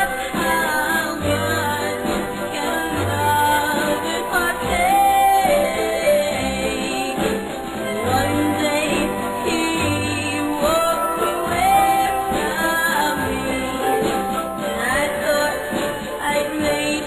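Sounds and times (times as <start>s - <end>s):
pop band backing: 0.0s - 17.0s
woman singing: 0.0s - 17.0s.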